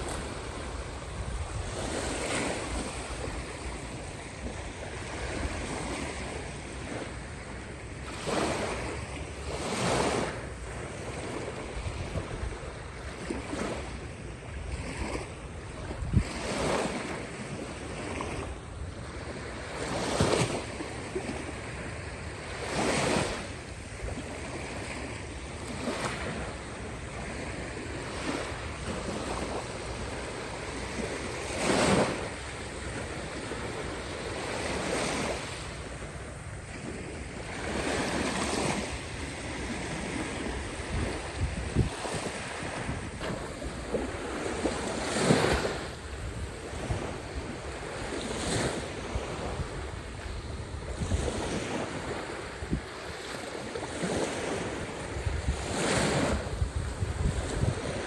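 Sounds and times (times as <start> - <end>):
waves breaking on shore: 0.0 - 58.0
wind on microphone: 0.0 - 58.0.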